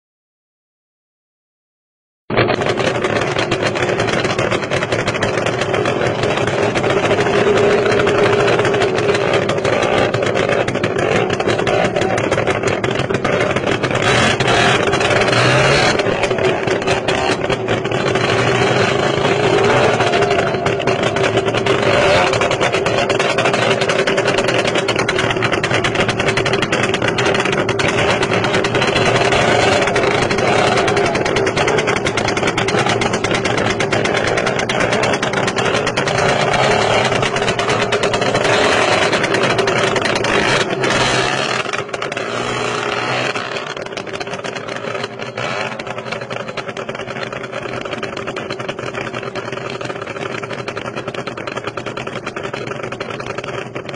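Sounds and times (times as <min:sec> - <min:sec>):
engines running and revving: 0:02.3 - 0:53.9.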